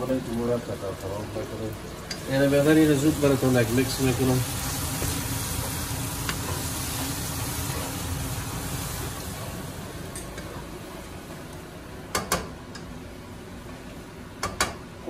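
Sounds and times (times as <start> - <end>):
food sizzling in oil: 0.0 - 12.3.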